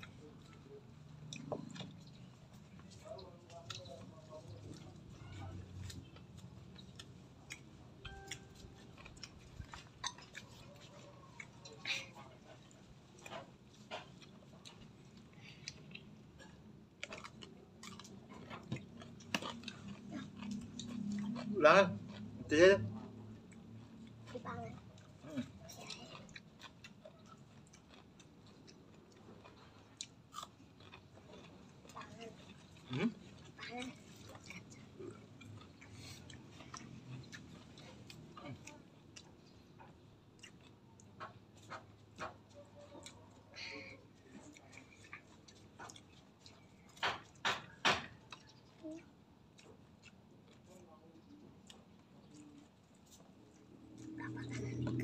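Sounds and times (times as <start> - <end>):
chewing raw vegetables: 0.0 - 55.0.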